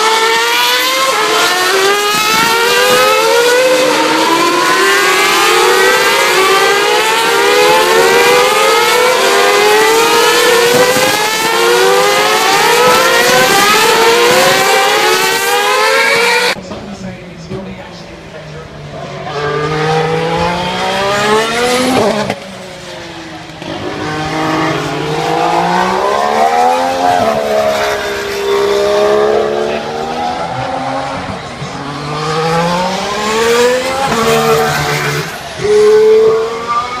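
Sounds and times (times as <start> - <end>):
racing car engines passing: 0.0 - 37.0.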